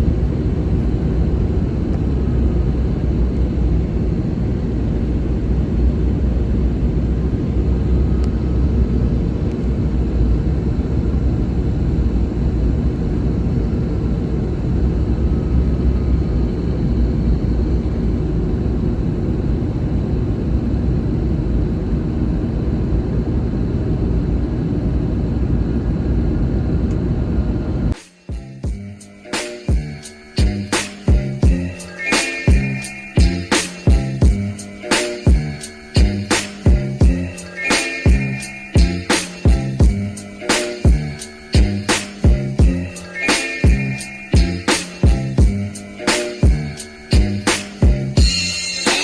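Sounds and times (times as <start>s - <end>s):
airliner cabin rumble: 0.0s - 28.0s, 28.6s - 49.0s.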